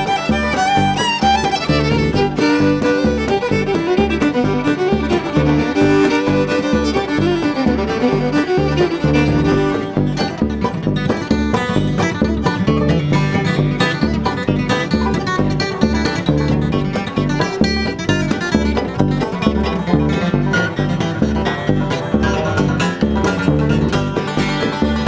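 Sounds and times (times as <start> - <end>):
acoustic guitar picking: 0.0 - 25.0
banjo picking: 0.0 - 25.0
bowed fiddle: 0.0 - 25.0
upright bass: 0.0 - 25.0.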